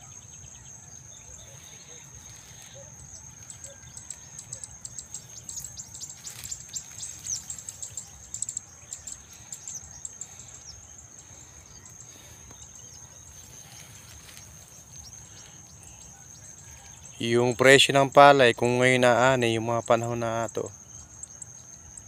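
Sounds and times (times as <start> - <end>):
birds chirping: 0.0 - 22.0
high-pitched insect drone: 0.0 - 22.0.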